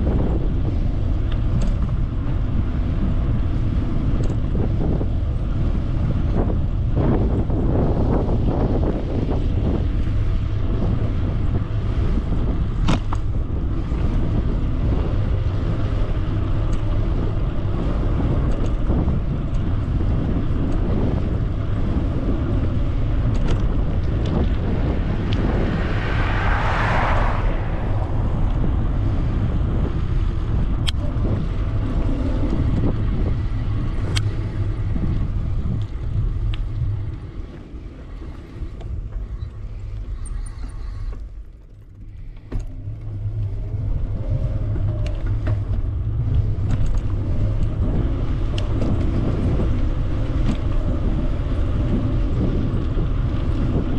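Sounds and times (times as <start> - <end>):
tyre noise on paved road: 0.0 - 53.9
wind rush on microphone: 0.0 - 53.9.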